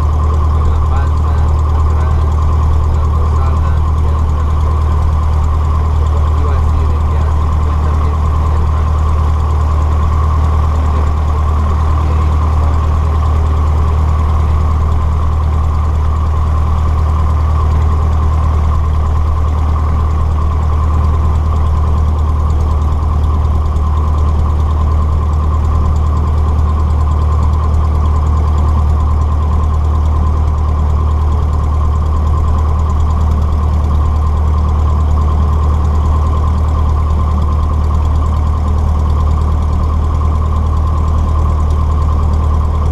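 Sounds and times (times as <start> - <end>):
small plane engine and propeller drone: 0.0 - 42.9.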